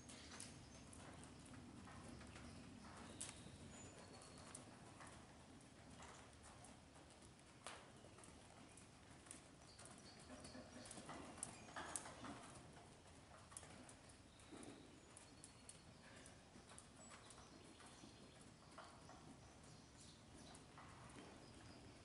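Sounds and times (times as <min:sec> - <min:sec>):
horse hoofbeats on dirt: 0:00.0 - 0:22.0.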